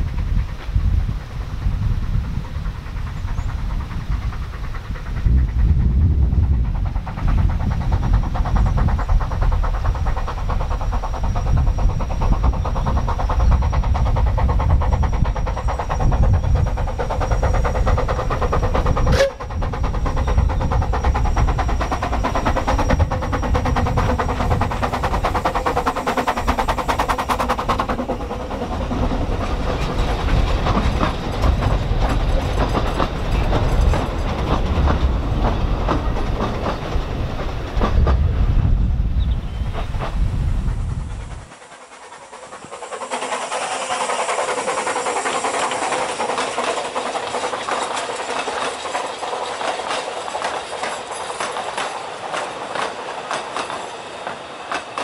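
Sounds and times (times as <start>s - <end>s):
carriages rattling over rails: 0.0s - 55.0s
steam locomotive chuffing: 0.0s - 55.0s.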